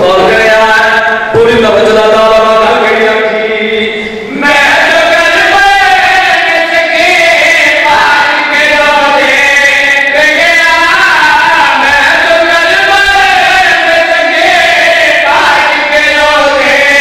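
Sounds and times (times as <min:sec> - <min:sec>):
men chanting through loudspeakers: 0:00.0 - 0:17.0.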